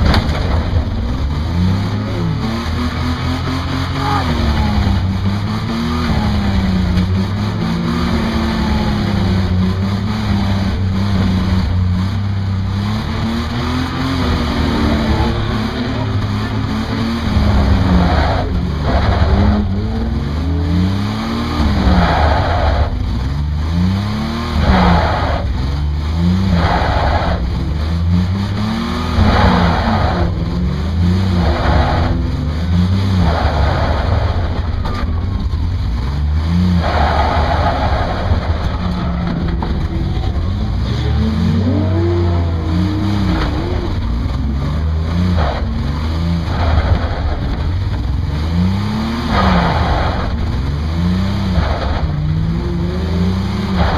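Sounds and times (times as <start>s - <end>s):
racing car engine revving: 0.0s - 53.9s.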